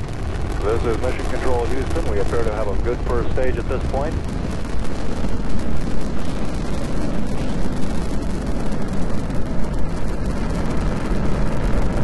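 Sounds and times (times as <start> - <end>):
rocket engines rumbling: 0.0 - 12.0.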